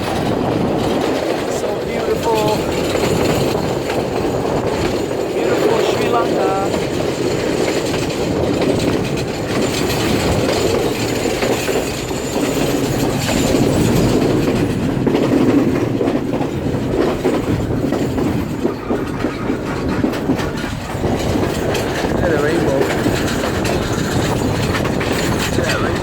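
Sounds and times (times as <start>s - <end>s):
train rumbling on rails: 0.0s - 26.0s
wheels clacking over rail joints: 0.0s - 26.0s.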